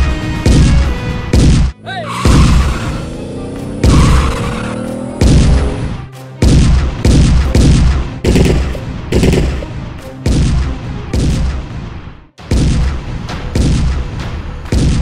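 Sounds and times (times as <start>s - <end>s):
gunfire and cannon blasts: 0.0s - 2.7s, 5.2s - 15.0s.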